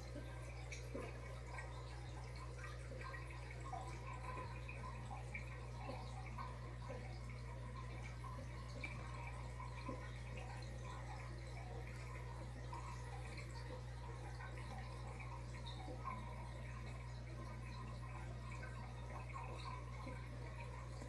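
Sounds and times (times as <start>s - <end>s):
tank pump humming: 0.0s - 21.0s
water trickling and dripping: 0.0s - 21.0s.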